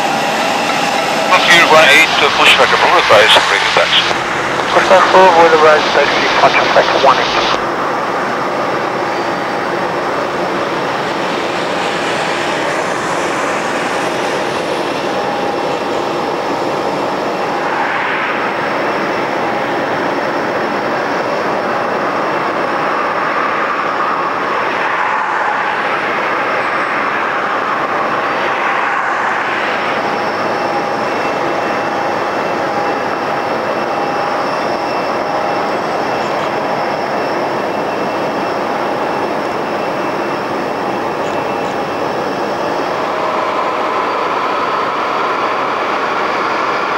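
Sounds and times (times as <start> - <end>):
jet engine idling roar: 0.0 - 46.9
jet engine whine: 0.0 - 46.9.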